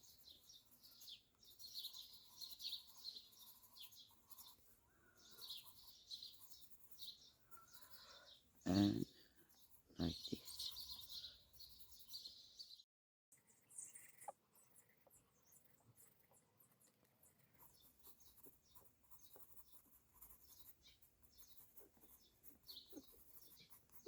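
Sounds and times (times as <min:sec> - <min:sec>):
pencil scratching on paper: 0:00.0 - 0:12.5, 0:13.4 - 0:24.0
birds chirping: 0:00.0 - 0:12.8, 0:13.5 - 0:24.0.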